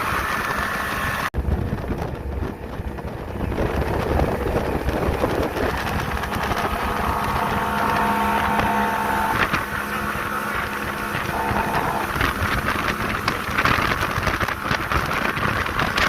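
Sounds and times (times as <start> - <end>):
rushing wind and water: 0.0 - 16.0
speedboat engine whining: 0.0 - 16.0.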